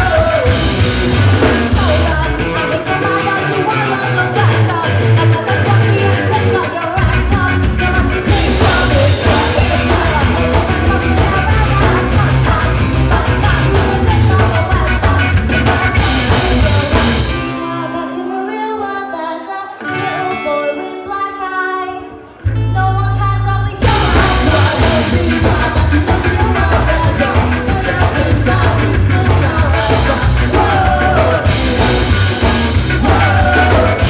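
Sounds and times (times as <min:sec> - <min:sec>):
ska-punk band playing live: 0:00.0 - 0:18.6, 0:19.7 - 0:34.0
person singing: 0:00.0 - 0:34.0.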